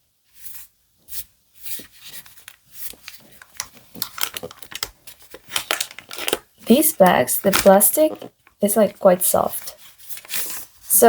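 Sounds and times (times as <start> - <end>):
plastic bag rustling: 1.7 - 10.9.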